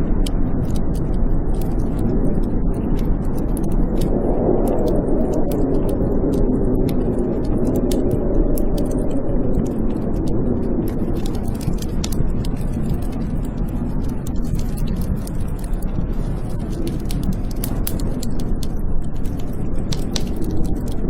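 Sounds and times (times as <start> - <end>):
blizzard wind howling: 0.0 - 21.0
wood fire crackling: 0.0 - 21.0.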